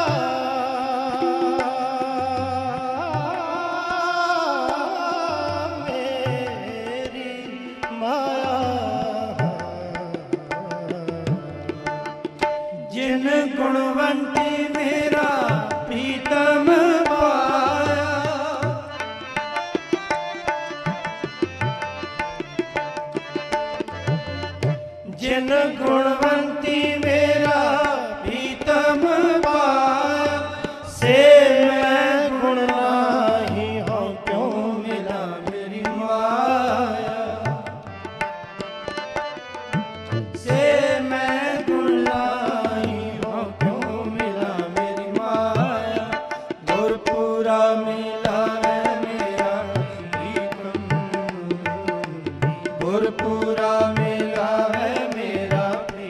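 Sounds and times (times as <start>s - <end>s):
harmoniums: 0.0s - 56.0s
men singing devotional song: 0.0s - 56.0s
tabla: 0.0s - 56.0s.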